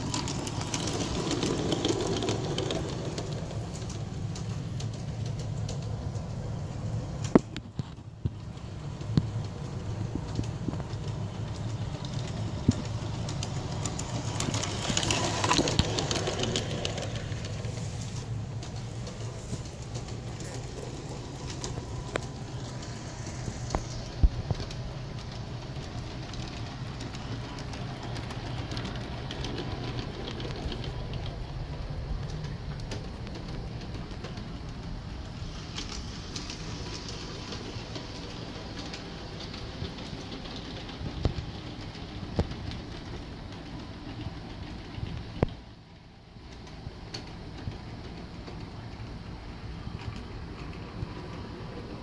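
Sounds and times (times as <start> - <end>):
model train motor humming: 0.0 - 7.4, 8.5 - 45.5
wheels clicking on rails: 0.0 - 52.0.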